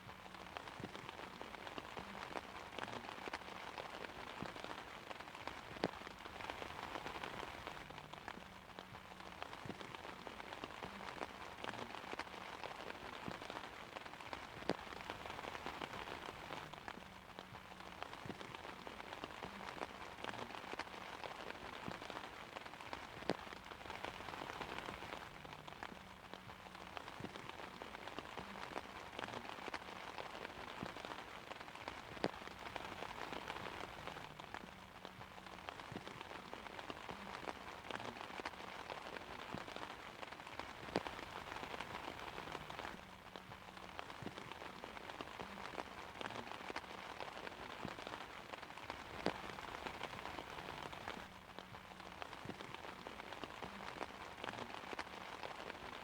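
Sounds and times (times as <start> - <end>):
rain pattering on an umbrella: 0.0 - 56.0.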